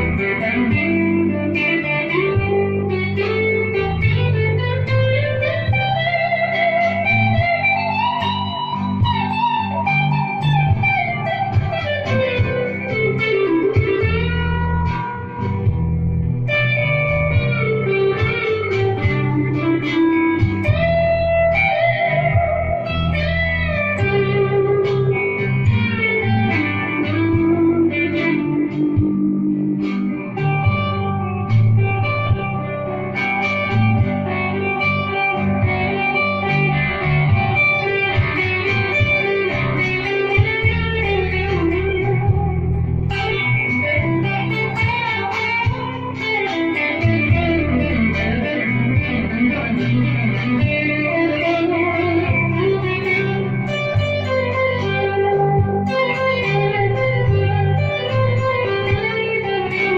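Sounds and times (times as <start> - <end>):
electric guitar lead line: 0.0 - 59.9.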